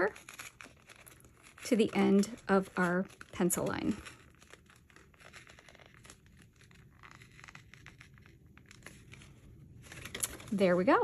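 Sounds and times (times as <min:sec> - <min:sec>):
paper tearing slowly: 0:00.0 - 0:11.0.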